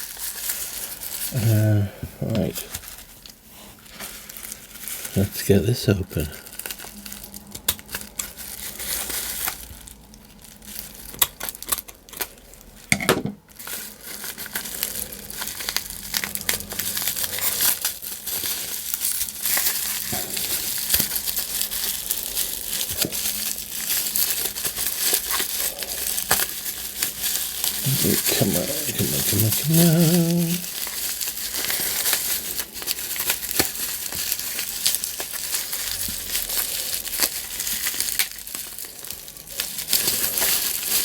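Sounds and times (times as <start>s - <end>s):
packaging crinkling: 0.0s - 41.0s
packaging snapping and tearing: 6.4s - 12.4s, 13.5s - 41.0s.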